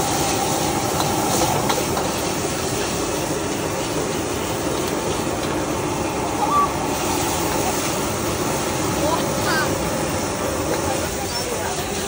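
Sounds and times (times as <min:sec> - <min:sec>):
busy kitchen rushing noise: 0:00.0 - 0:12.0.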